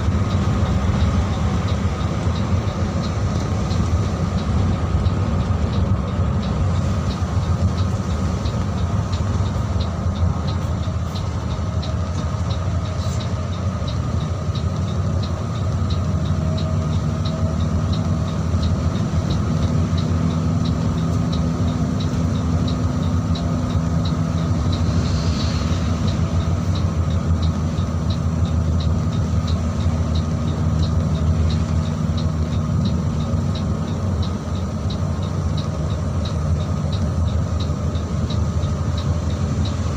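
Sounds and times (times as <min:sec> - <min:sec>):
bus diesel engine running: 0:00.0 - 0:39.9
light ticking: 0:00.0 - 0:39.9
road rumble: 0:00.0 - 0:39.9.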